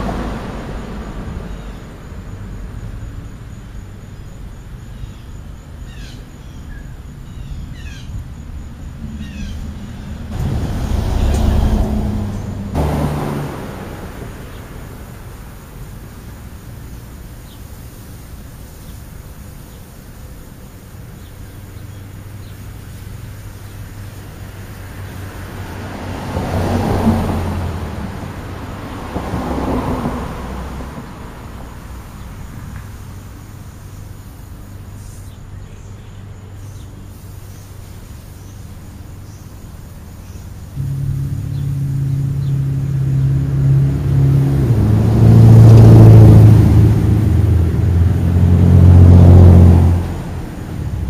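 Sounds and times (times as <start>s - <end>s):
road traffic hum: 0.0s - 51.0s
vehicles passing: 0.0s - 51.0s.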